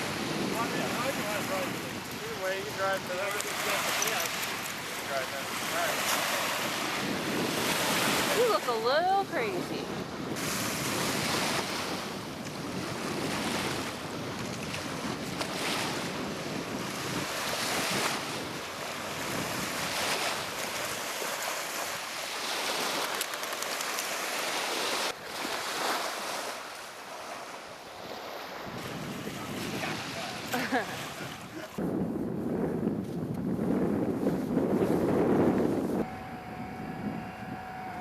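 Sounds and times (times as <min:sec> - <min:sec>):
wind rumbling on microphone: 0:00.0 - 0:26.0, 0:28.0 - 0:38.0
waves washing onto beach: 0:00.0 - 0:31.8.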